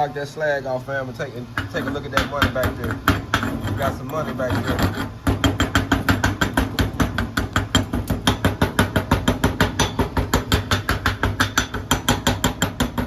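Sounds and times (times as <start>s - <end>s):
steady low hum: 0.0s - 13.0s
chipping hammer striking metal: 1.6s - 13.0s.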